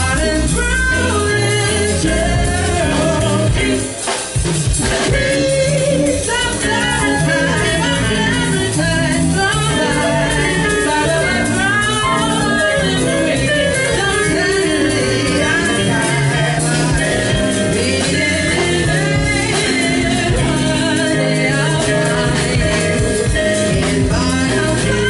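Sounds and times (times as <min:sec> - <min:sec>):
woman singing: 0:00.0 - 0:04.1, 0:04.9 - 0:25.0
jazz band playing: 0:00.0 - 0:25.0.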